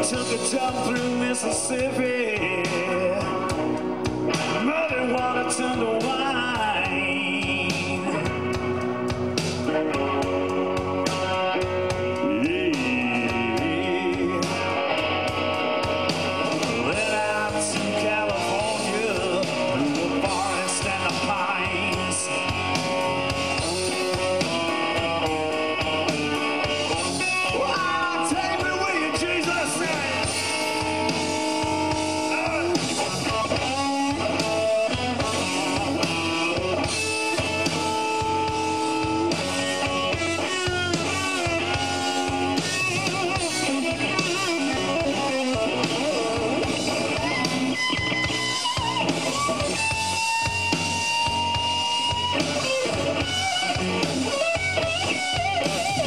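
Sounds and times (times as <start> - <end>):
bass: 0.0 - 56.0
drum kit: 0.0 - 56.0
electric guitar lead: 0.0 - 56.0.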